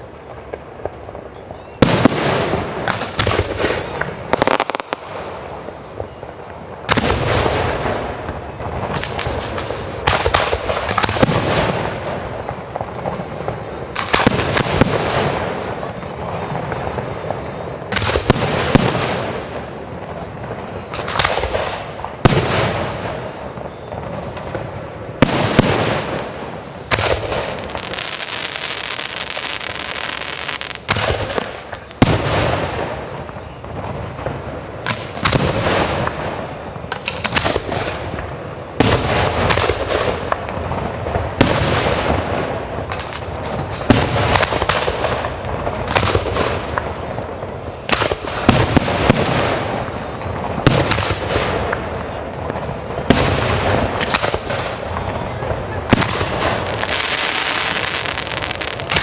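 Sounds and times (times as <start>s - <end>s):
firework crackling: 0.0s - 59.0s.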